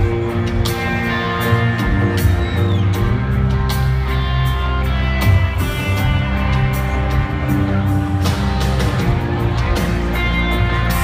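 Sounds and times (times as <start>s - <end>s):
live band music over sound system: 0.0s - 11.0s.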